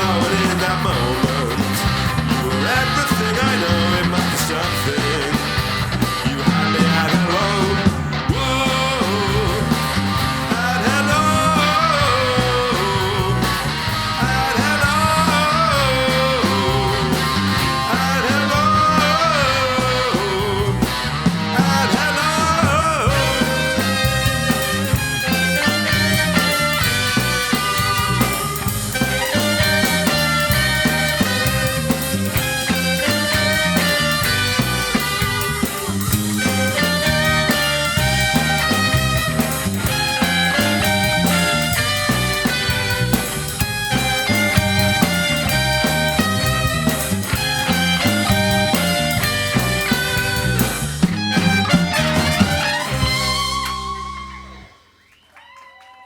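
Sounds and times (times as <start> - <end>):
pitch-bending lead line: 0.0 - 54.9
rock band playing: 0.0 - 55.0.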